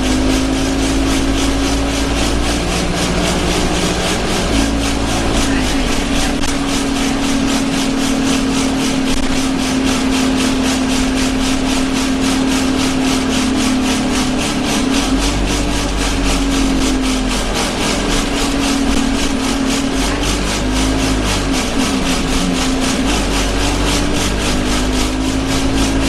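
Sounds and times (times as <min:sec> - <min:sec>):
bus engine drone: 0:00.0 - 0:26.0
low rumble: 0:00.0 - 0:26.0
rhythmic pulsing vibration: 0:00.0 - 0:26.0.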